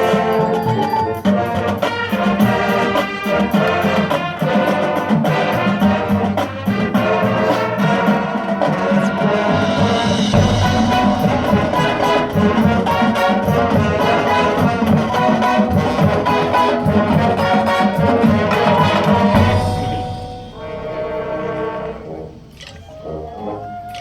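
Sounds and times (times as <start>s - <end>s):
percussion strokes: 0.0s - 23.0s
school band brass playing: 0.0s - 24.0s.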